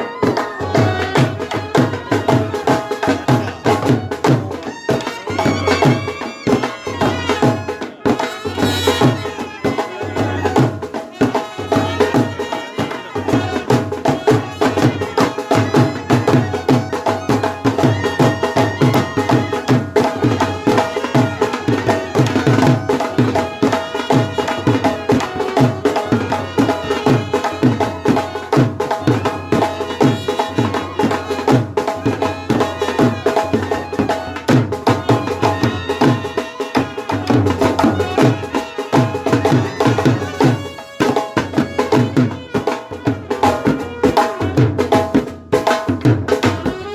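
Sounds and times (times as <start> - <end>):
brass band playing: 0.0 - 44.6
fast drum beat: 0.0 - 46.9.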